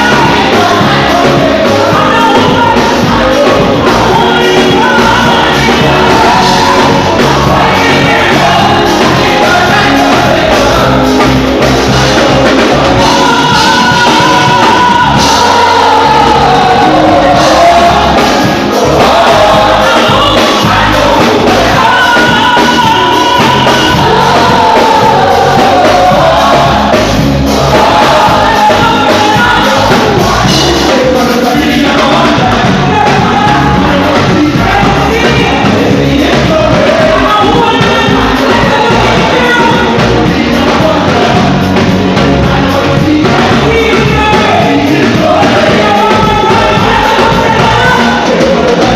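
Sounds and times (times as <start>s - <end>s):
full band playing: 0.0s - 48.9s
gospel voices singing: 0.0s - 48.9s.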